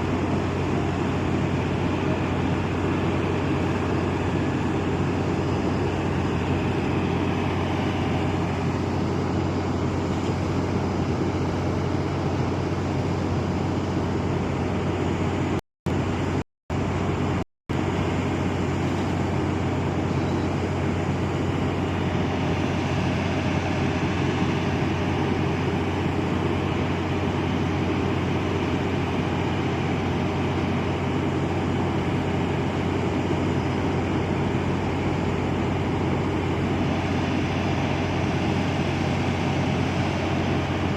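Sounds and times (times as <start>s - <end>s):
marine diesel engine drone: 0.0s - 40.9s.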